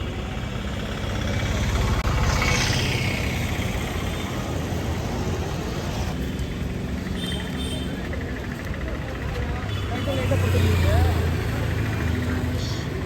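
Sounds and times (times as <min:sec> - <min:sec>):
road traffic engine and tyre noise: 0:00.0 - 0:13.0.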